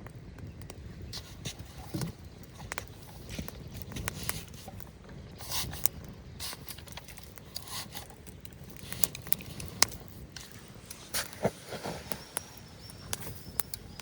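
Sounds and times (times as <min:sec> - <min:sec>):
scrapes and rustles of handling: 0:01.1 - 0:14.0.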